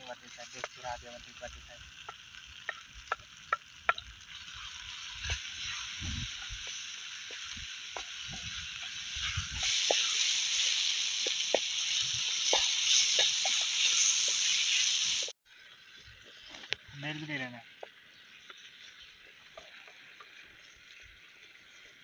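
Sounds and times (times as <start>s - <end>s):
campfire pops and crackles: 0.0s - 22.0s
vegetables sizzling in a pan: 0.0s - 22.0s.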